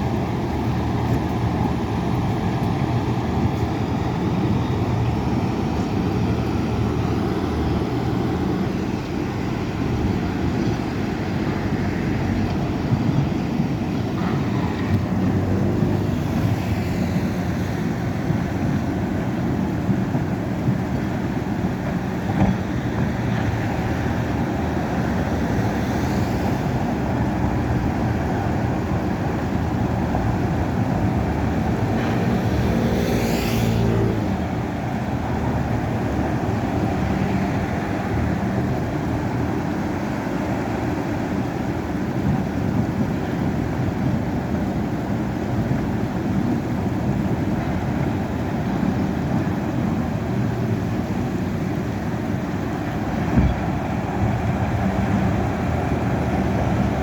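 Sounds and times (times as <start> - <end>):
heavy machine diesel engines rumbling: 0.0 - 57.0.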